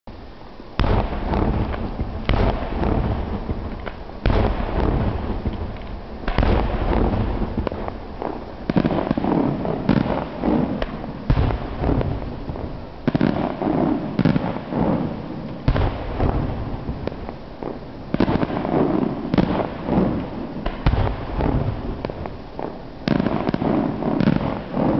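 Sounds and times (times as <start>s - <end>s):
fireworks bangs: 0.6s - 24.9s.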